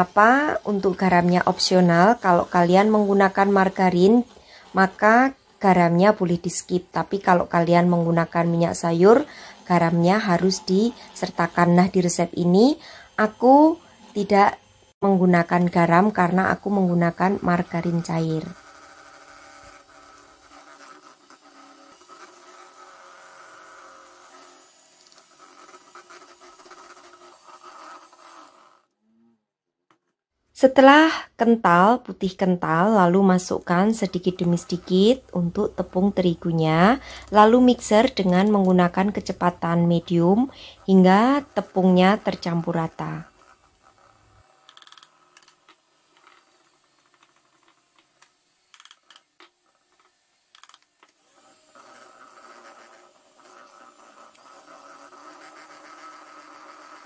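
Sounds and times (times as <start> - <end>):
electric mixer whining: 0.0 - 28.9, 32.6 - 57.0.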